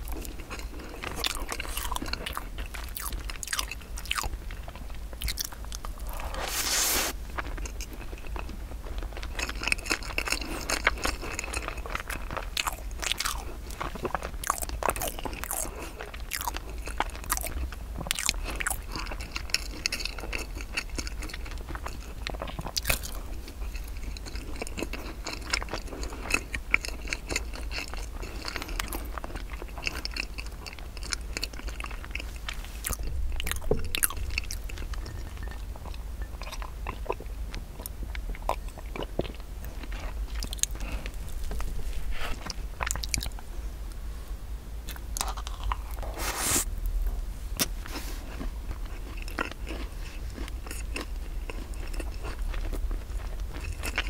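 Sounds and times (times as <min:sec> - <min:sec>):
close chewing with wet smacks: 0:00.0 - 0:06.0, 0:07.4 - 0:43.5, 0:48.4 - 0:54.0.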